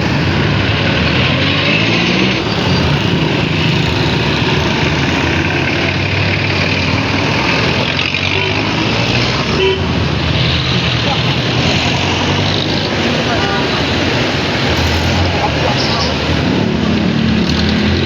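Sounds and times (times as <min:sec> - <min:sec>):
road traffic: 0:00.0 - 0:18.0
vehicle engine humming: 0:00.0 - 0:18.0.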